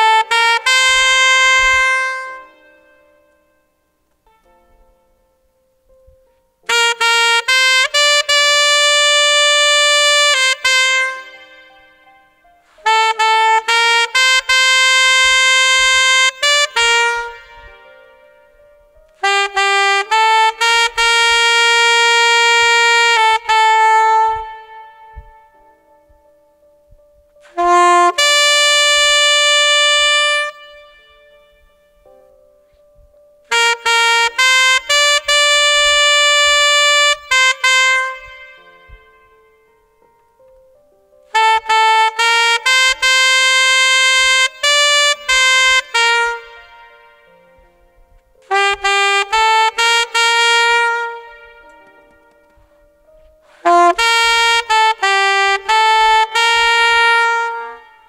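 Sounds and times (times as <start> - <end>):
alto saxophone slow melody: 0.0 - 58.0.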